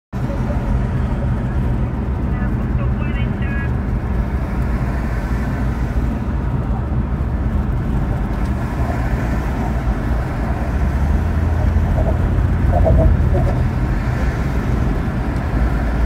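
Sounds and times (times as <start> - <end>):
car engine rumble: 0.1 - 16.0
tyre road noise: 0.1 - 16.0.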